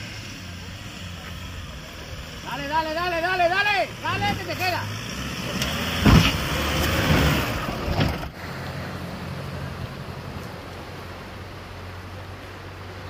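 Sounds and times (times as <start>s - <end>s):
engine working under load: 0.0s - 13.0s
low engine hum: 0.0s - 13.0s.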